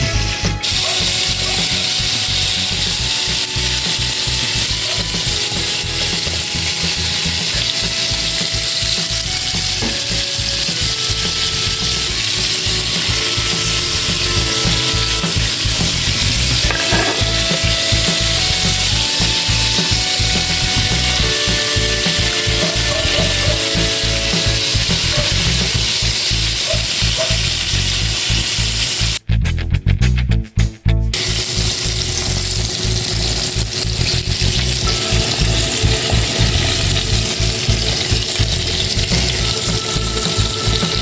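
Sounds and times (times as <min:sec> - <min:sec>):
hot oil sizzling: 0:00.0 - 0:29.2, 0:31.2 - 0:41.0
background music: 0:00.0 - 0:41.0.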